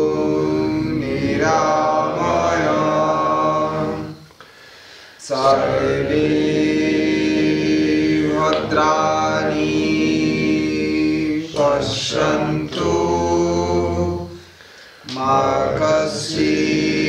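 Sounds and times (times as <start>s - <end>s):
person chanting a mantra: 0.0s - 4.3s, 5.2s - 17.0s.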